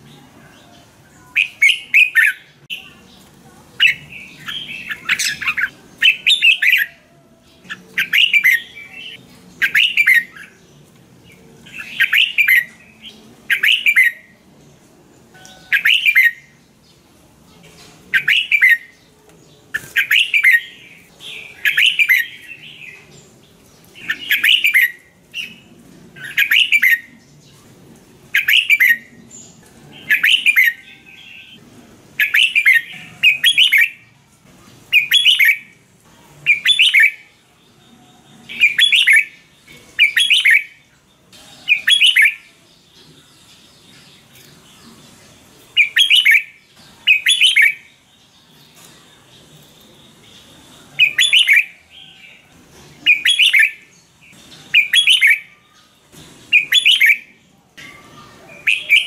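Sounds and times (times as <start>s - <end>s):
bulbul singing: 0.0s - 17.0s, 17.7s - 27.6s, 28.3s - 31.6s, 32.2s - 35.8s, 36.4s - 59.0s.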